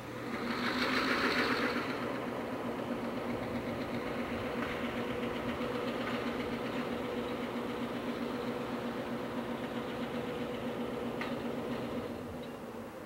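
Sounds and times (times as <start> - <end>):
locomotive engine idling: 0.0 - 13.0.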